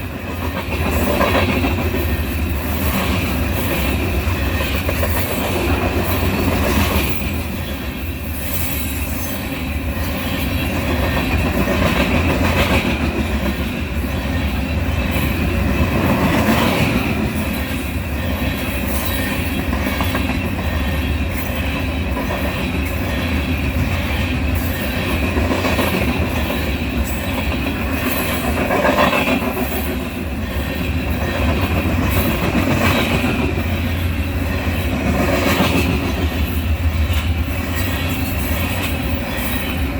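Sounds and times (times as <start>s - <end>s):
railcars rumbling on rails: 0.0s - 39.9s
train wheel squeal: 0.0s - 39.9s.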